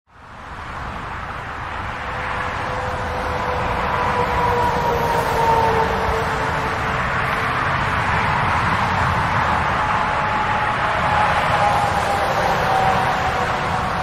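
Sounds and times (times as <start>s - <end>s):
passing vehicles: 0.1s - 14.0s.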